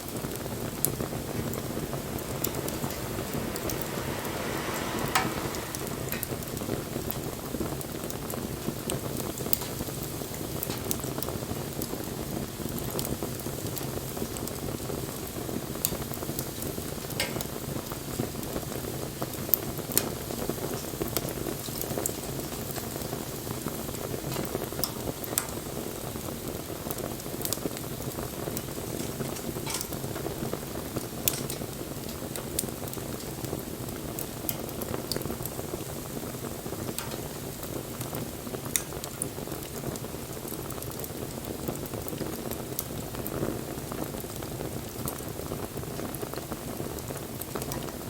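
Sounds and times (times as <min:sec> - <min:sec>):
bonfire hissing: 0:00.0 - 0:48.0
fire crackles and pops: 0:00.0 - 0:48.0.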